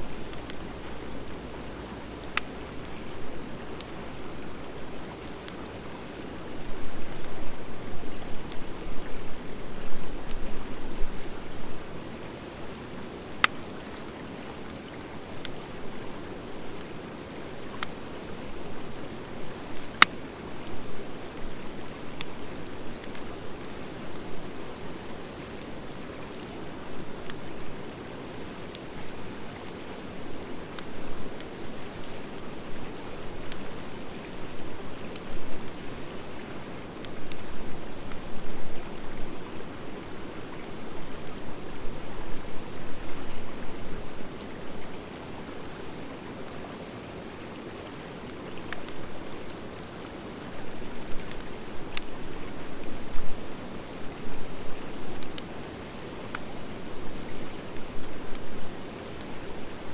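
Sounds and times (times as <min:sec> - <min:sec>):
wood fire crackling and hissing: 0:00.0 - 0:59.9.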